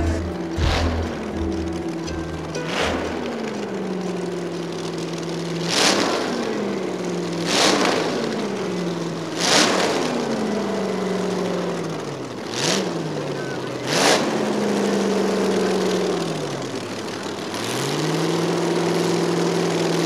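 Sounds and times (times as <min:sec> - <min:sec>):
dragster engine revving: 0:00.0 - 0:20.0.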